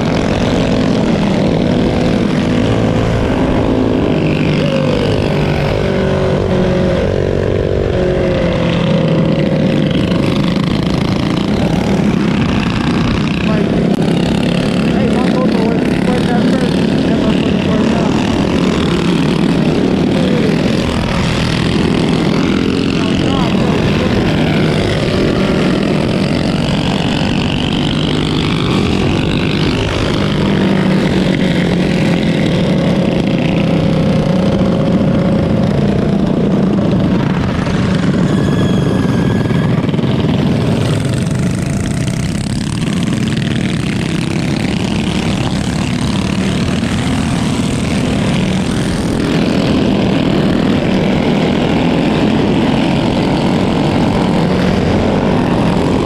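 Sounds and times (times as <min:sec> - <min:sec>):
mini bike engines droning: 0:00.0 - 0:56.0.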